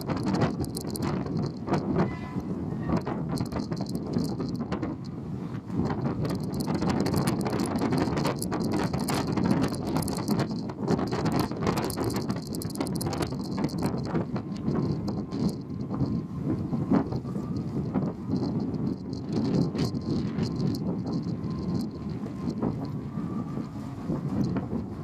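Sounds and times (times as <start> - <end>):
rapid crackling: 0.0 - 2.0, 3.0 - 5.1, 5.8 - 16.1, 17.0 - 23.0
ferry engine rumble: 0.0 - 25.0.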